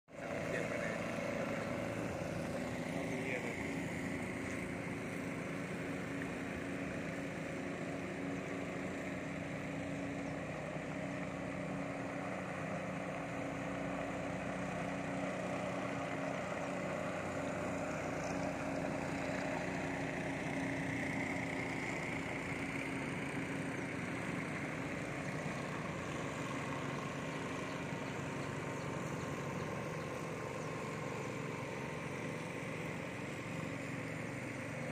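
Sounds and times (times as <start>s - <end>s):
boat engine running: 0.1s - 34.9s.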